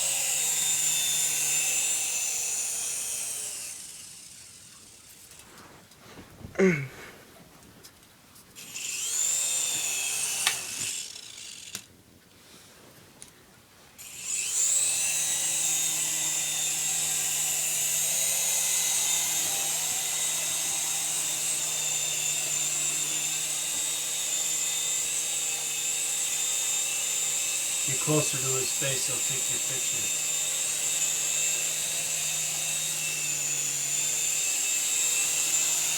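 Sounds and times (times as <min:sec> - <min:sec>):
toy helicopter motor whining: 0:00.0 - 0:05.4, 0:08.6 - 0:11.9, 0:14.0 - 0:35.9.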